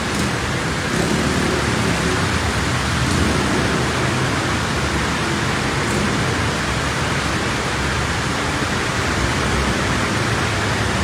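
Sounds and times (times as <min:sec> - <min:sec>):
cars rushing through floodwater: 0:00.0 - 0:11.0
low traffic hum: 0:00.0 - 0:11.0.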